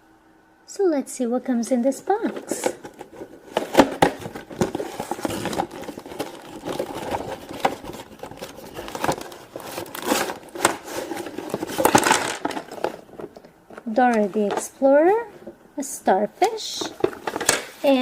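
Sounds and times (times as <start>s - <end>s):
cardboard and plastic rustling: 1.9s - 15.6s, 16.4s - 18.0s.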